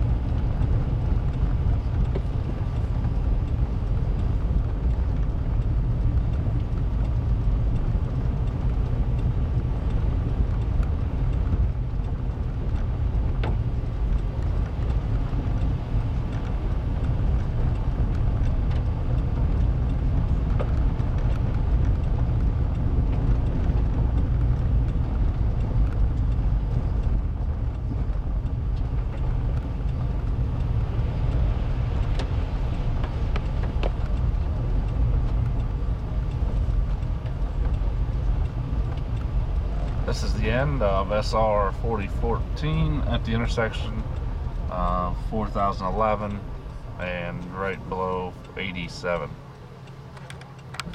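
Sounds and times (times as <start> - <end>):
car tyres and engine rumble: 0.0 - 50.9
light ticks: 0.0 - 50.9.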